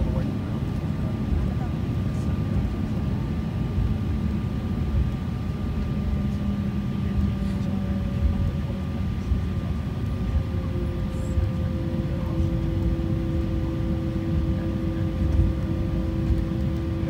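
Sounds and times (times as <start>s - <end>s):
jet engines at low power: 0.0s - 17.0s.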